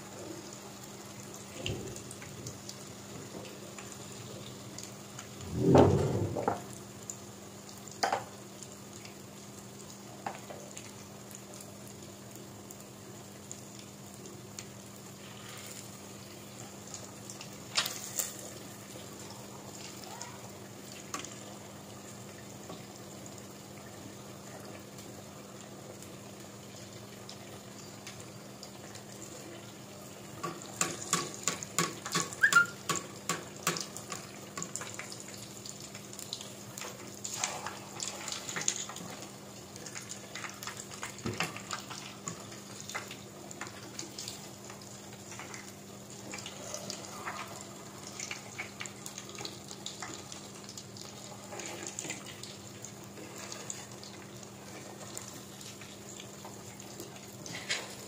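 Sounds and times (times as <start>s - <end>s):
food sizzling in hot oil: 0.1s - 58.0s.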